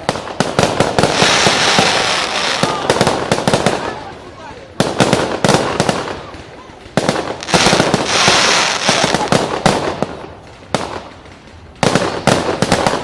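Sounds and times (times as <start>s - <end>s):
firework bangs: 0.0s - 13.0s
firework crackling: 0.0s - 13.0s.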